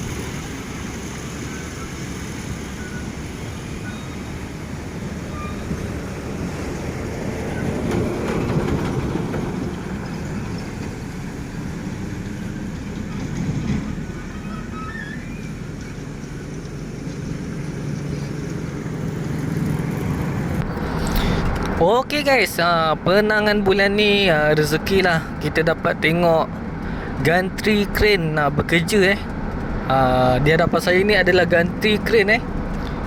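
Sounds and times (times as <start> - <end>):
heavy vehicle road noise: 0.0 - 33.0.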